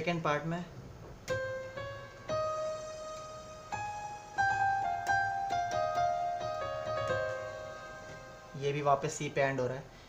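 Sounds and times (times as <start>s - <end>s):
slow keyboard melody: 1.2s - 9.4s.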